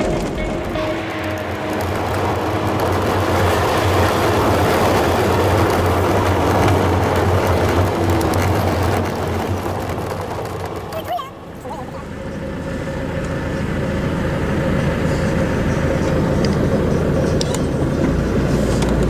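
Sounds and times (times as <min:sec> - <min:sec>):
low engine drone: 0:00.0 - 0:19.0
tyres on gravel: 0:00.0 - 0:19.0.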